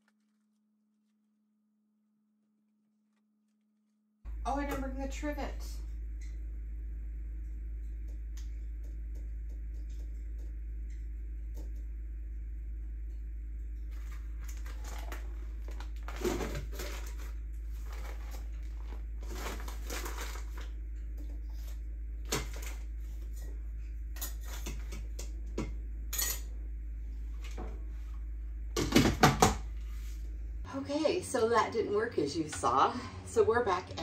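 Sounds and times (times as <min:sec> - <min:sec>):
low hum: 0:04.3 - 0:34.0.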